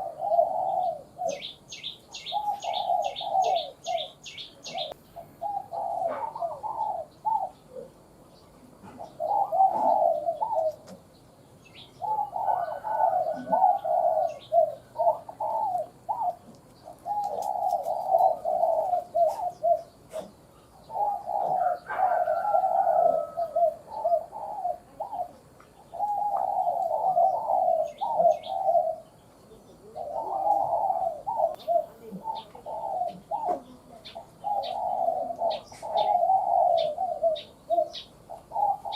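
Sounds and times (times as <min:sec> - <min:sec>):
dove cooing: 0:00.0 - 0:38.9
small birds chirping: 0:00.0 - 0:38.9.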